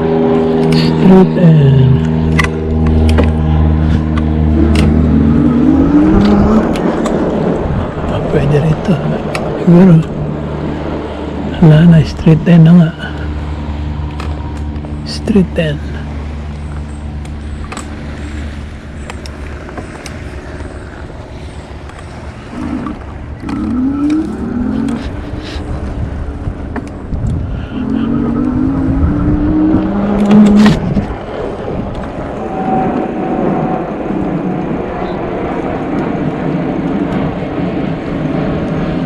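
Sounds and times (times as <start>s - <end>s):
vehicle motor tone: 0.0s - 34.7s
road and wind rumble: 0.0s - 39.0s.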